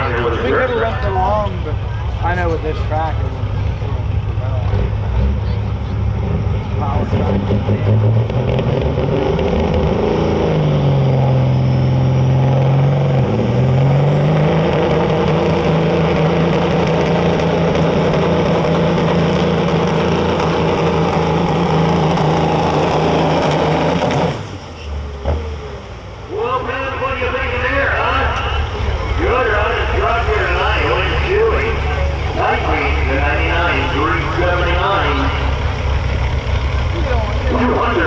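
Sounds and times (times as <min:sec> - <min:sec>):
diesel truck engine at full throttle: 0:00.0 - 0:38.0.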